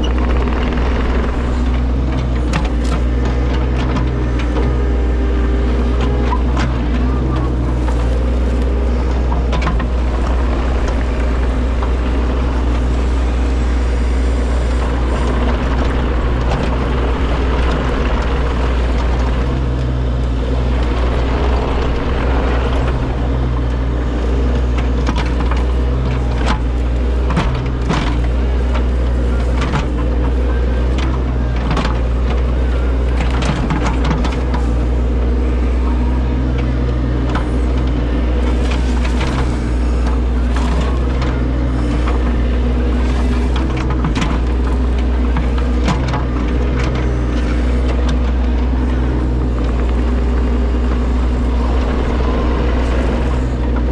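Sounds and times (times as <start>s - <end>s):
excavator engine running: 0.0s - 53.9s
knocks and clunks: 0.0s - 53.9s.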